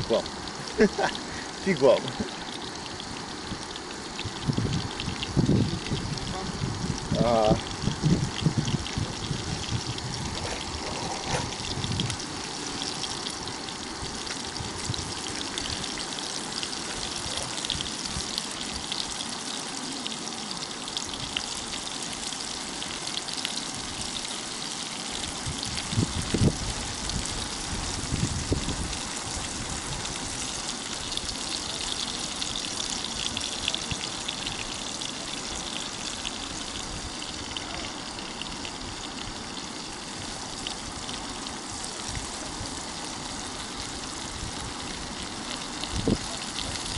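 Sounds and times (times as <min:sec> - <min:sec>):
fish frying in oil: 0:00.0 - 0:46.9.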